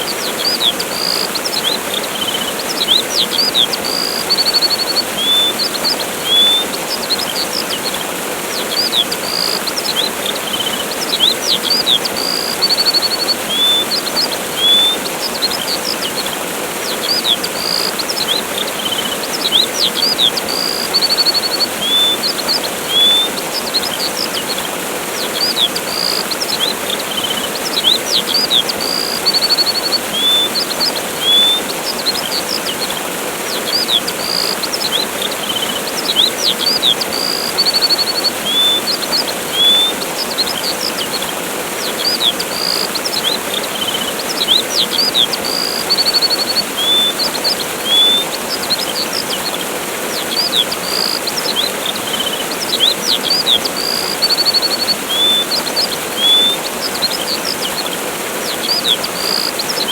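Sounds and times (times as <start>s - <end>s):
songbirds chirping and trilling: 0.0s - 59.9s
waterfall rushing: 0.0s - 59.9s.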